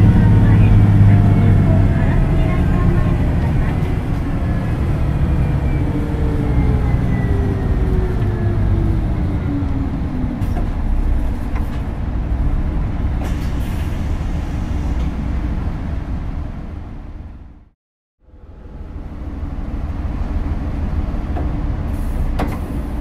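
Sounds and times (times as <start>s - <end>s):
bus engine rumble and whine: 0.0s - 23.0s.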